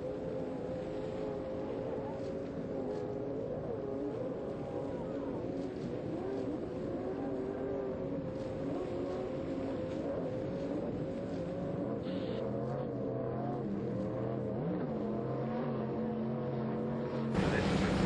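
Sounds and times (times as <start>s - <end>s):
low engine drone: 0.0s - 18.0s
powerboat engines droning: 0.0s - 18.0s.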